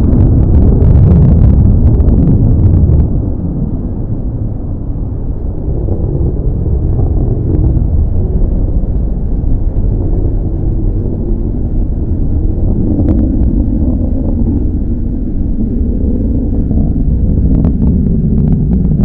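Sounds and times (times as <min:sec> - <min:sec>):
jet engines on afterburner: 0:00.0 - 0:19.0.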